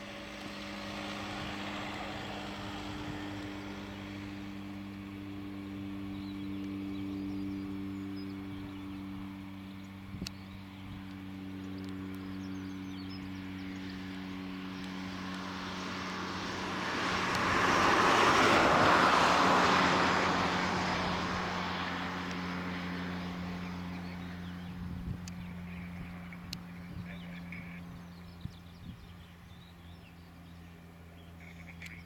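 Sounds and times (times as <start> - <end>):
jet engine taxiing: 0.0 - 32.0
steady low hum: 0.0 - 32.0.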